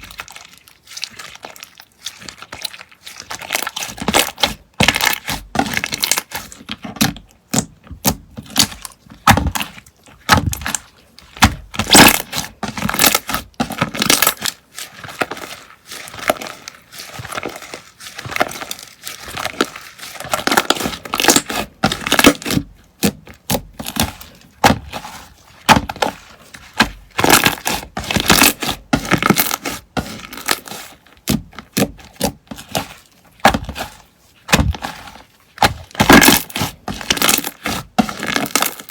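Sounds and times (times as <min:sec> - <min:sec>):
slime crunching and crackling: 0:00.0 - 0:38.9.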